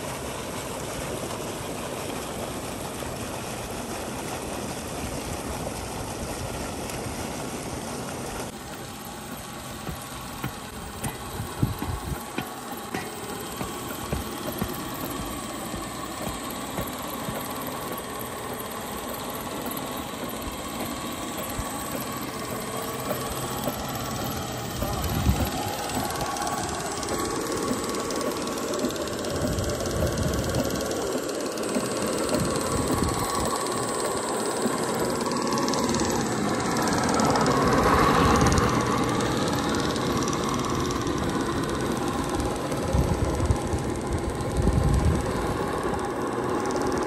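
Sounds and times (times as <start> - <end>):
belt-driven water pump running: 0.0 - 47.0.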